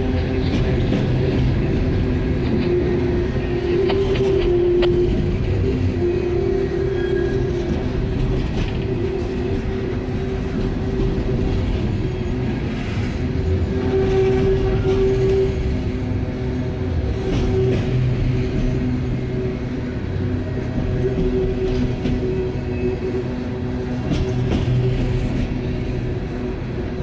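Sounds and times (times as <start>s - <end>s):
steel wheels rumbling on rail: 0.0s - 27.0s.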